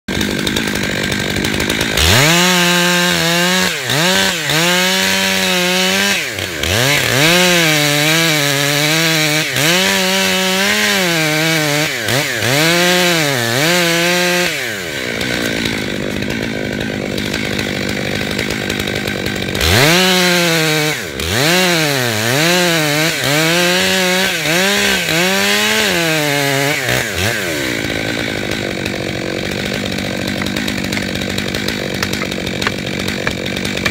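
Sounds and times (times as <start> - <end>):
chainsaw engine revving: 0.1 - 33.9.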